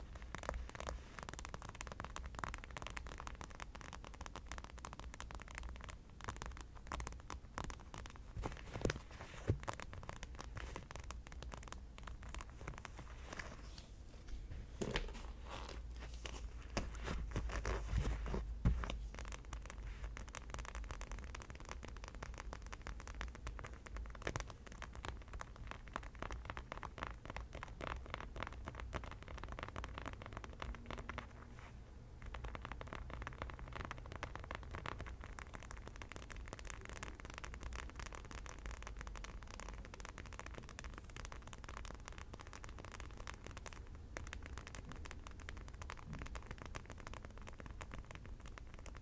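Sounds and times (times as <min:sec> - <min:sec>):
fast tapping and scratching: 0:00.0 - 0:13.9, 0:14.8 - 0:49.0.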